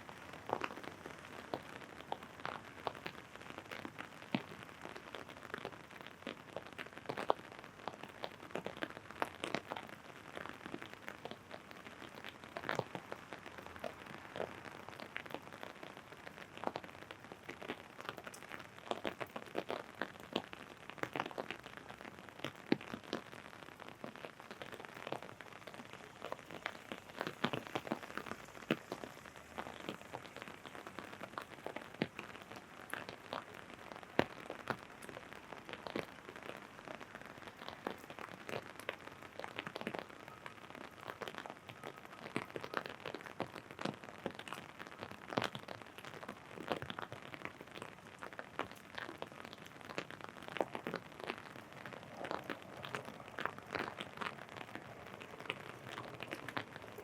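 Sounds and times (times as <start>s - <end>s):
rain drumming on an umbrella: 0.0s - 57.0s.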